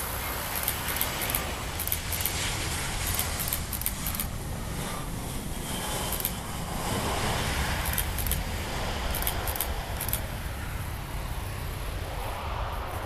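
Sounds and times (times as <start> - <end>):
distant jet engines roaring: 0.0 - 13.0
wind buffeting microphone: 0.0 - 13.0.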